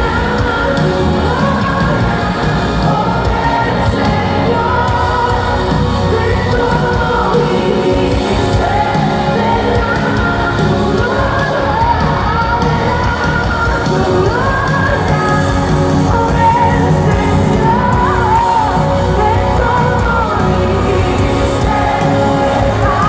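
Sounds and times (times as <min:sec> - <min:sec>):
live band music: 0:00.0 - 0:23.0
woman singing: 0:00.0 - 0:23.0.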